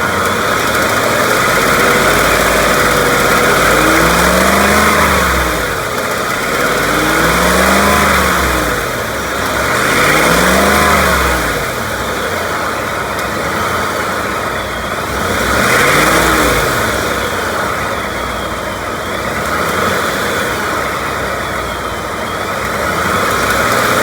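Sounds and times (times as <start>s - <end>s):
engine idling and revving: 0.0s - 24.0s
engine ticking: 0.0s - 24.0s.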